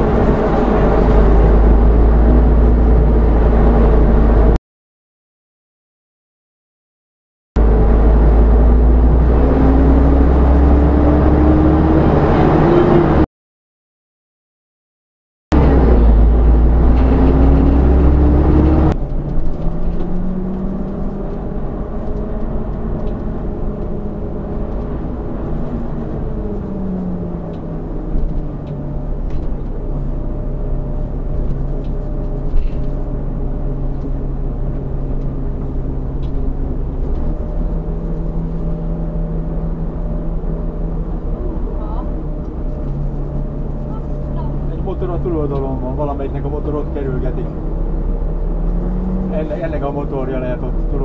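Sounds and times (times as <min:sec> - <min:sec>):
vehicle engine from inside cab: 0:00.0 - 0:04.6, 0:07.6 - 0:13.3, 0:15.5 - 0:51.0.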